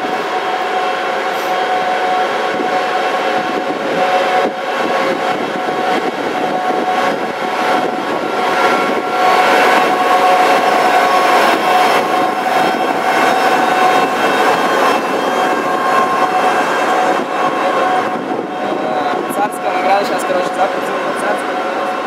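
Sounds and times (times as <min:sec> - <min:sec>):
rumble of wheels on rail: 0:00.0 - 0:22.0.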